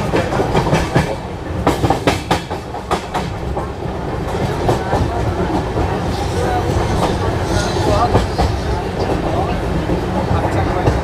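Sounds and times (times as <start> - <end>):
train rumbling on board: 0.0 - 11.0
wheels clacking over rail joints: 0.0 - 11.0.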